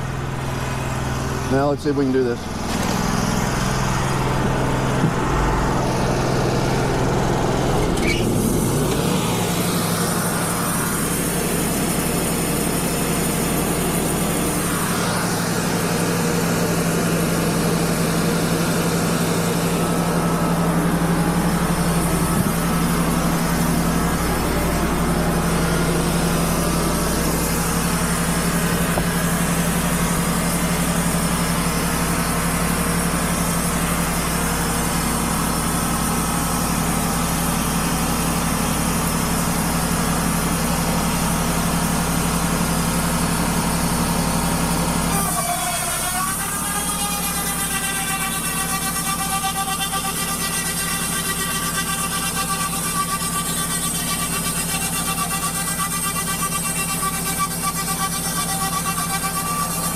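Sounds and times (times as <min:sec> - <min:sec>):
bandsaw sawmill cutting wood: 0:00.0 - 0:59.9.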